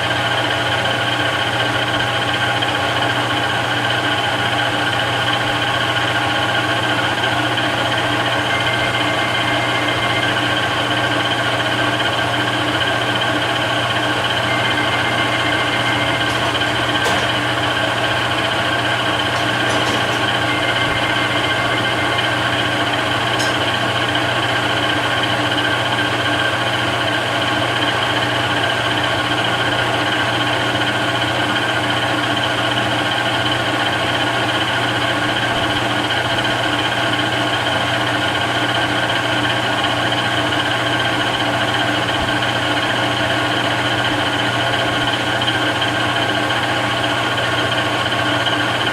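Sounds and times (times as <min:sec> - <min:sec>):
metal lathe humming: 0:00.3 - 0:48.9
gear whine: 0:05.3 - 0:48.9.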